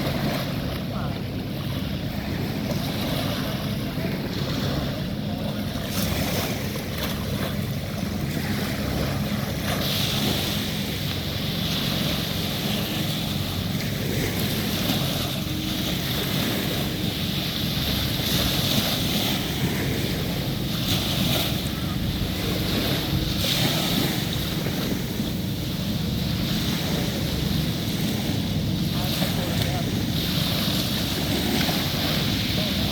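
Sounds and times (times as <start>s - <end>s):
surf washing onto beach: 0.0s - 32.9s
wind rumble on microphone: 0.0s - 32.9s.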